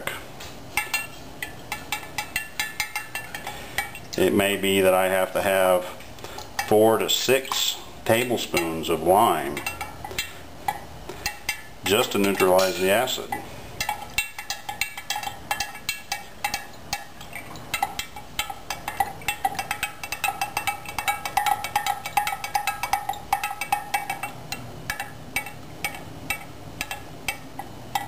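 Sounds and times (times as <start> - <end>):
stirrer clinking in glass jar: 0.8 - 4.2, 6.6 - 28.0.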